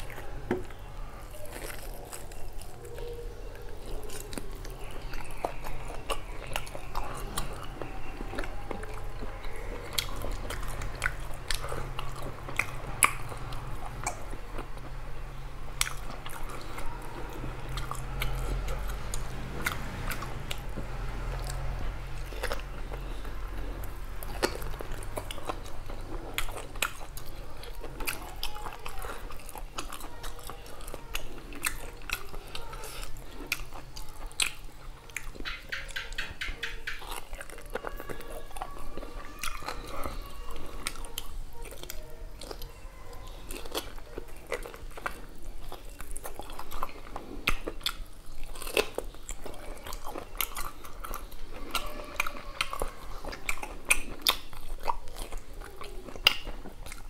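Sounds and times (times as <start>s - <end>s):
person chewing with wet mouth sounds: 0.0s - 57.0s.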